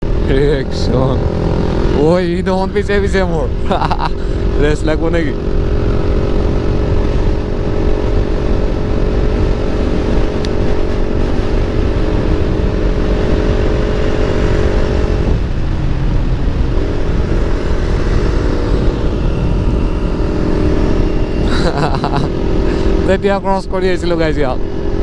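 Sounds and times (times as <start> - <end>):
wind on microphone: 0.0 - 23.1
motorcycle engine running: 0.0 - 25.0.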